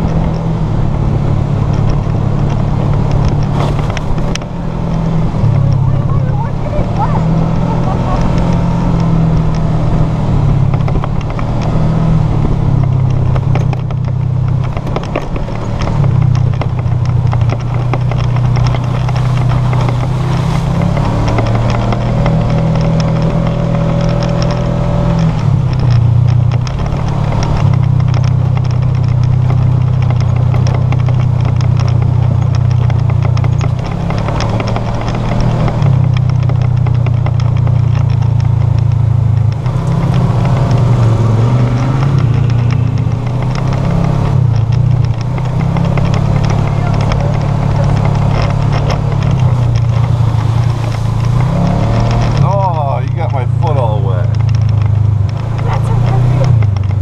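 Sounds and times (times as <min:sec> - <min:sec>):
rattling and knocking: 0:00.0 - 0:57.0
utility vehicle engine running: 0:00.0 - 0:57.0.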